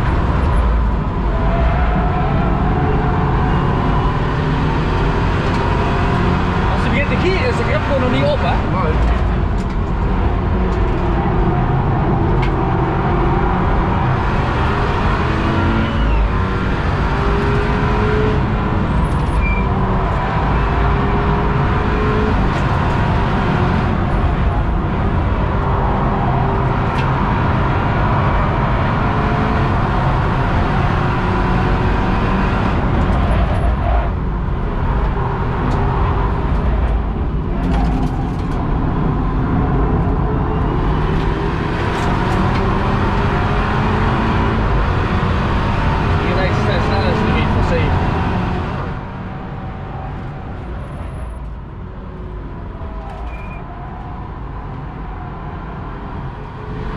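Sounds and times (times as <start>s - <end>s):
car engine under hard load: 0.0s - 56.8s
wind and tyre roar: 0.0s - 56.9s.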